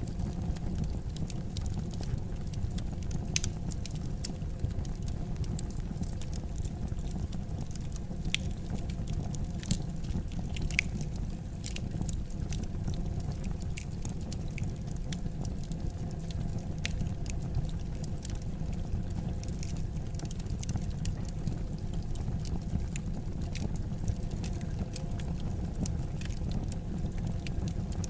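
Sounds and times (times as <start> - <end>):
fire crackling and popping: 0.0 - 28.0
fire low rumble: 0.0 - 28.0.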